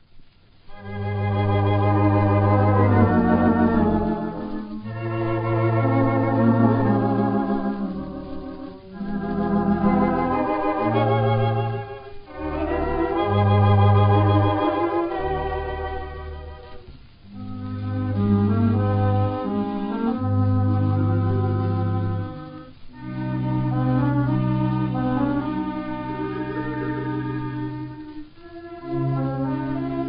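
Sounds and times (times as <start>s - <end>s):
pipe organ chords: 0.7s - 30.0s.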